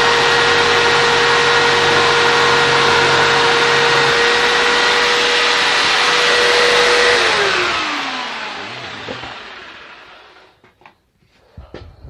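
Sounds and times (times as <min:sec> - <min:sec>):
jigsaw whining: 0:00.0 - 0:10.6.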